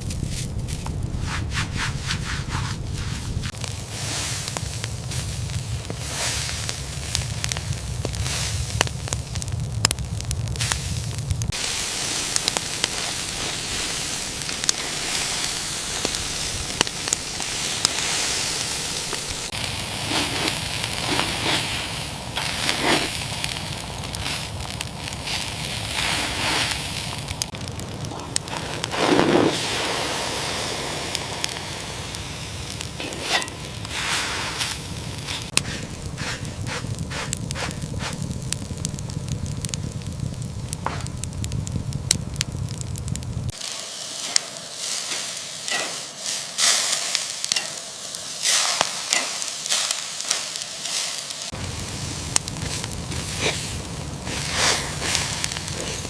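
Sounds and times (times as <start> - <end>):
crackling and hissing: 0.0 - 56.0.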